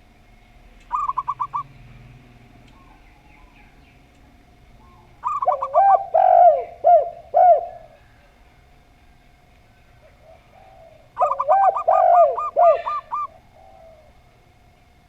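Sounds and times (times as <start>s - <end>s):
doves cooing: 0.0s - 15.0s.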